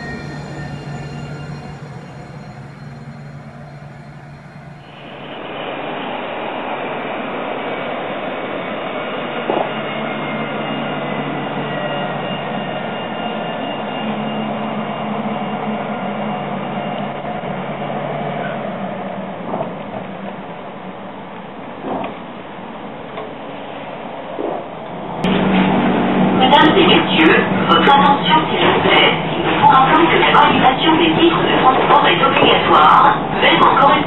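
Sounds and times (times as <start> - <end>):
tram rolling: 0.0 - 34.0.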